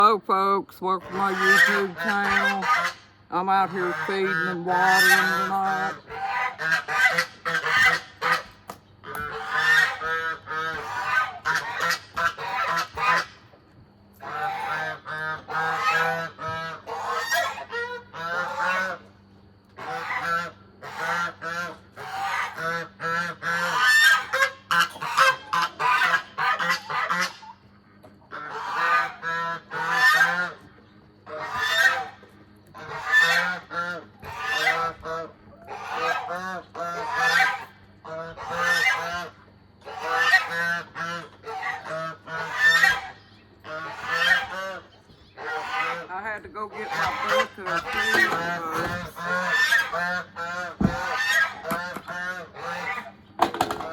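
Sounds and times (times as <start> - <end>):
goose honking: 0.0 - 13.4, 14.2 - 19.1, 19.8 - 27.6, 28.3 - 53.9.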